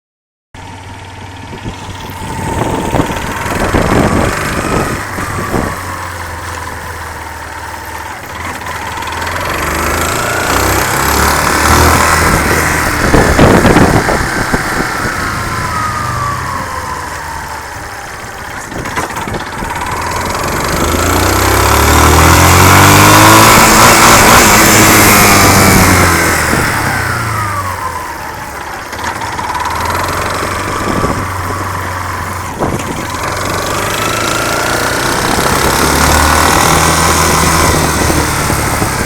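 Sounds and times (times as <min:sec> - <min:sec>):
motorcycle engine revving: 0:00.6 - 0:39.0.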